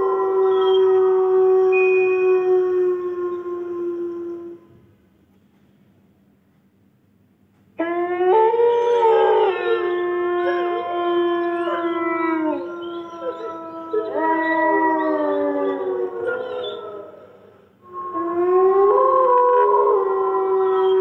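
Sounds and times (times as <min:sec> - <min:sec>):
wolves howling in chorus: 0:00.0 - 0:04.7, 0:07.8 - 0:21.0.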